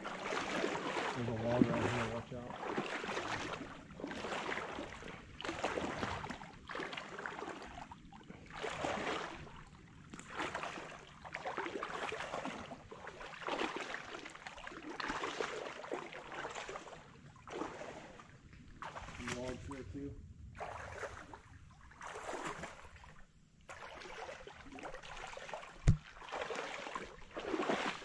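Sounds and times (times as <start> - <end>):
wading through water sloshing: 0.0 - 28.0.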